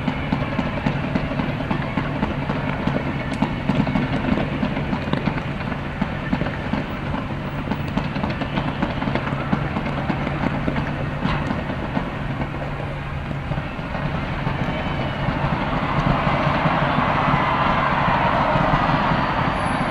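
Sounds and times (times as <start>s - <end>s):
fireworks crackling: 0.0s - 19.9s.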